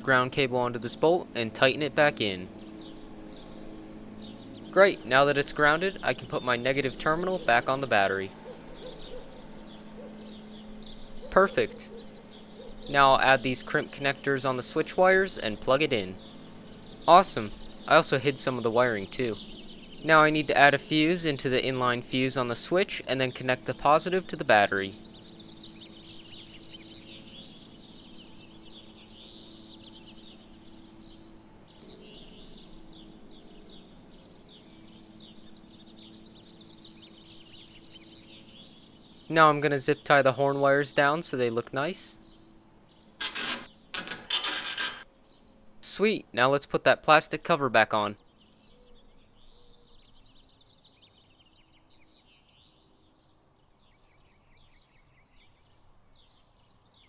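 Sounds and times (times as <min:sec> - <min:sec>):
low hum: 0:00.0 - 0:45.9
small birds chirping: 0:00.0 - 0:57.0.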